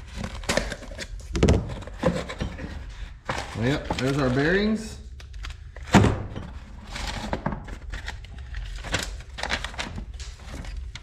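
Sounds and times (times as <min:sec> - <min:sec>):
parts and packing being handled: 0:00.0 - 0:11.0.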